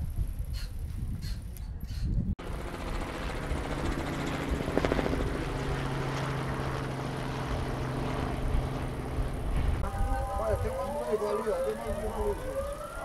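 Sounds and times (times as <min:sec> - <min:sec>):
helicopter flying overhead: 0:02.4 - 0:13.0.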